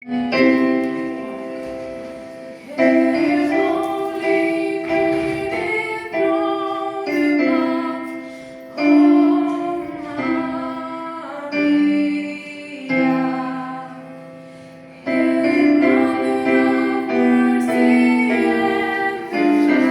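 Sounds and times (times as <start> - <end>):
piano chords: 0.0 - 19.9
choir singing a hymn: 0.1 - 19.9.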